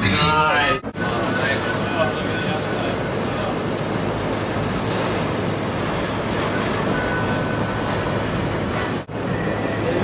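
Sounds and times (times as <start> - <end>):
surf breaking: 0.0 - 10.0.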